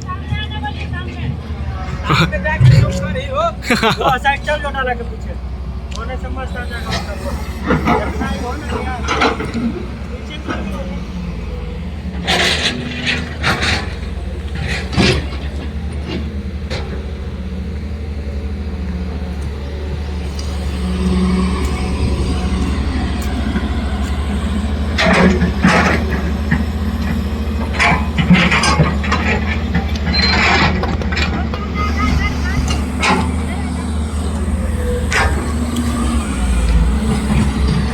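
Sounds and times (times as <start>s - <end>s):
engine humming: 0.0s - 37.9s.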